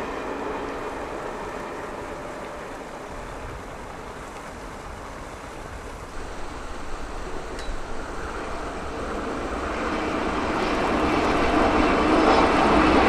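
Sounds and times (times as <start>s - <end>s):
electric train running: 0.0s - 13.0s
wind gusting on microphone: 0.0s - 13.0s.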